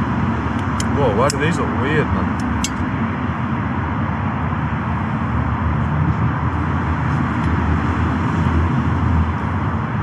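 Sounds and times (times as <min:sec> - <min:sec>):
motorway traffic drone: 0:00.0 - 0:10.0.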